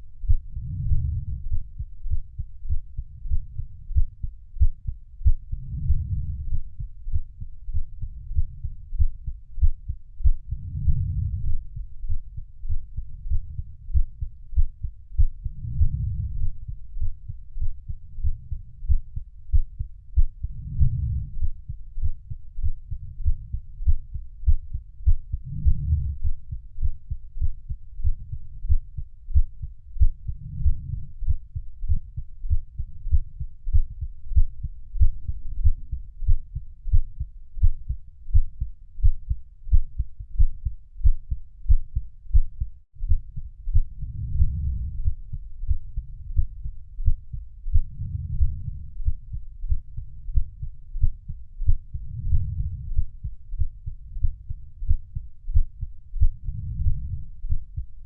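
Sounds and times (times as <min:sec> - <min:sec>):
heartbeat thumps: 0:00.2 - 0:58.0.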